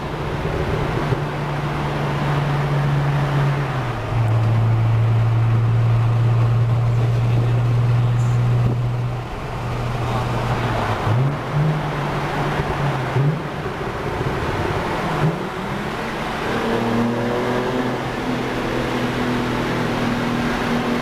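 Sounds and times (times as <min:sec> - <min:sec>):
car engine droning at cruise: 0:00.0 - 0:21.0
road noise: 0:00.0 - 0:21.0.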